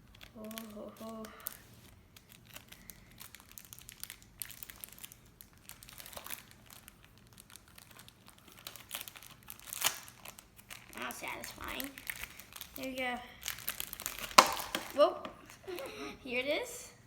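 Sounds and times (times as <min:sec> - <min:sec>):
plastic packaging crinkling: 0:00.0 - 0:15.9.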